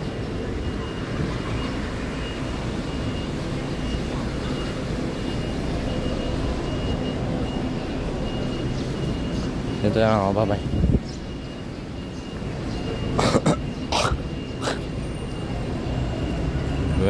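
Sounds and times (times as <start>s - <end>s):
car engines and tyres: 0.0s - 17.0s.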